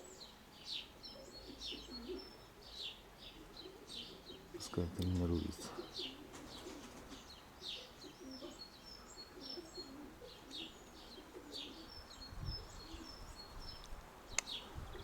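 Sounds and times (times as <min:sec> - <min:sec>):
pigeons cooing softly: 0:00.0 - 0:15.0
small birds chirping: 0:00.0 - 0:15.0.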